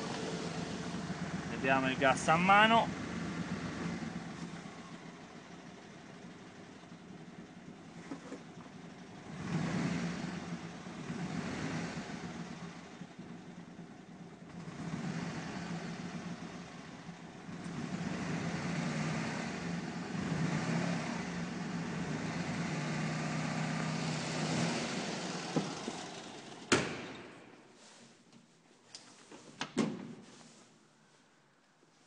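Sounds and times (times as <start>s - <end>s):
two-cylinder engine revving: 0.0s - 8.1s, 8.7s - 27.2s.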